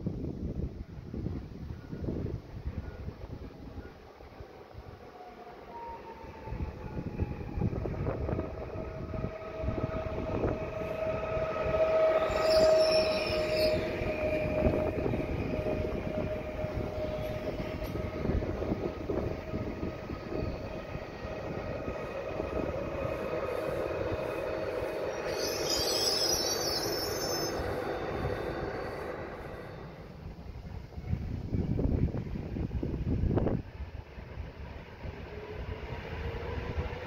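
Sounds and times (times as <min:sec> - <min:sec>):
train rail rumble: 0:00.0 - 0:37.0.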